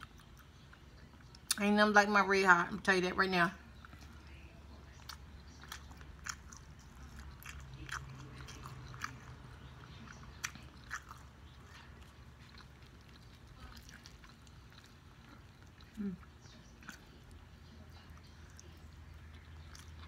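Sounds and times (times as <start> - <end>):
person chewing: 0.0 - 1.6, 3.6 - 20.0.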